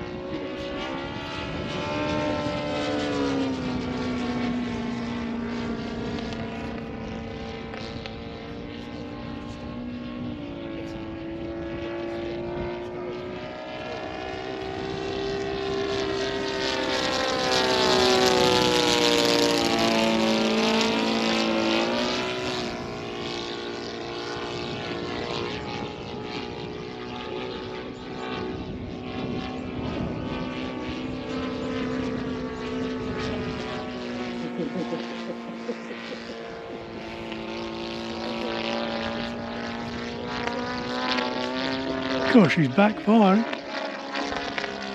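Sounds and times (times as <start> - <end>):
model plane engine flying by: 0.0 - 44.9.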